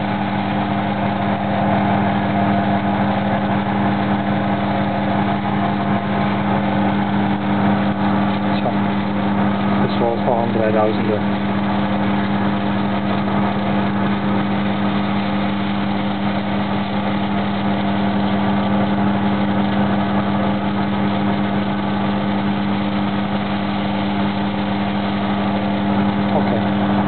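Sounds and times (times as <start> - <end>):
grinding machine humming: 0.0 - 27.0.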